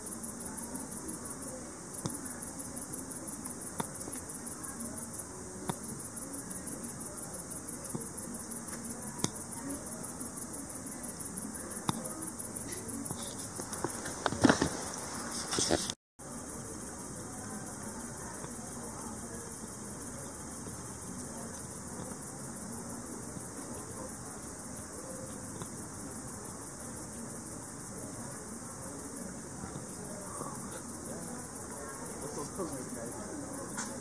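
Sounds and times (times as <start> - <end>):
bush cricket ticking: 0.0 - 34.0.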